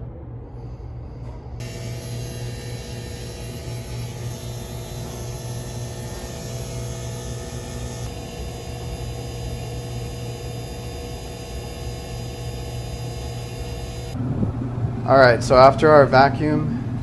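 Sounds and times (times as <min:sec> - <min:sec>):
vacuum pump humming and whirring: 0:01.6 - 0:17.0.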